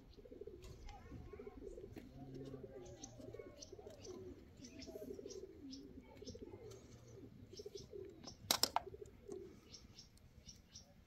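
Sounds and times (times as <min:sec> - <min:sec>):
pigeons cooing: 0:00.0 - 0:10.6.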